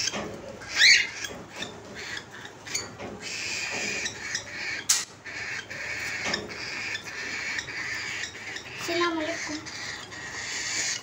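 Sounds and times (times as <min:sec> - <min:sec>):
beaks pecking plastic bowl: 0:00.0 - 0:11.0
birds chattering: 0:00.0 - 0:11.0.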